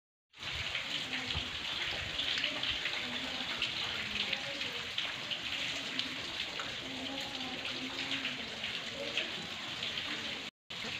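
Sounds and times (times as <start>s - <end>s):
rain pattering on ground: 0.3s - 10.9s.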